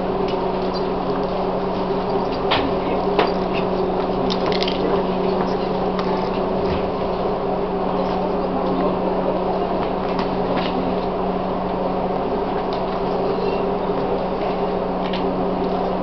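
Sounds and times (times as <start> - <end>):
electric train humming: 0.0 - 16.0.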